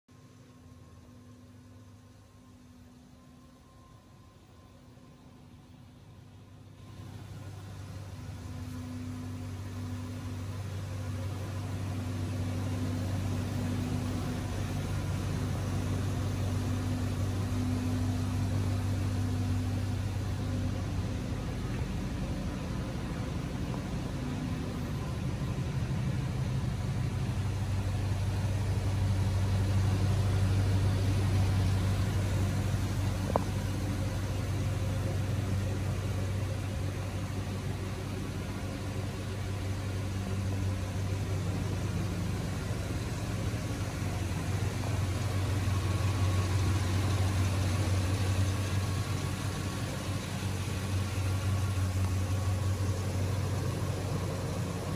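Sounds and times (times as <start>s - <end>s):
car engine idling: 0.1s - 54.9s.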